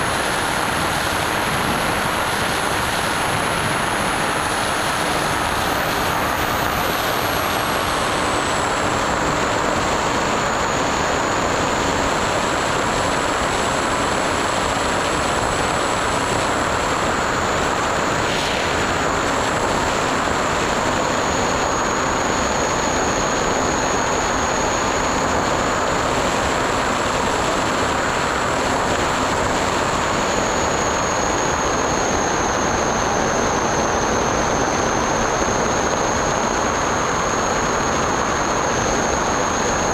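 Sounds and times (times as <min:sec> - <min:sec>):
high electric motor whine: 0:00.0 - 0:39.9
model plane propeller and air rush: 0:00.0 - 0:39.9.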